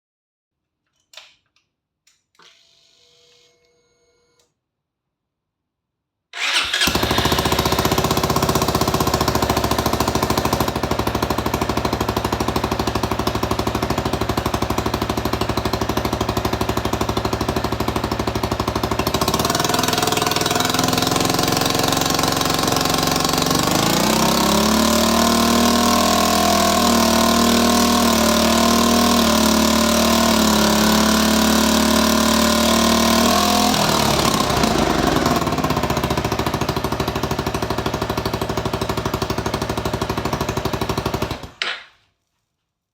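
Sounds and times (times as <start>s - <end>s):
scooter engine starting and idling: 6.4s - 41.6s.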